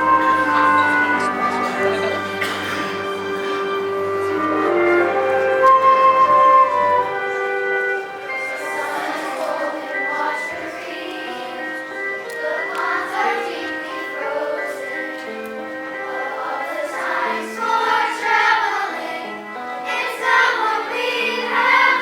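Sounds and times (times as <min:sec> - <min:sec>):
choir singing: 0:00.0 - 0:22.0
instrumental accompaniment: 0:00.0 - 0:22.0.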